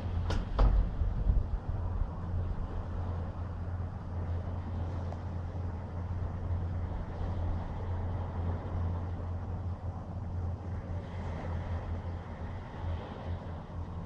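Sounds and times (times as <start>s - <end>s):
ocean surf on sandy beach: 0.0s - 14.0s.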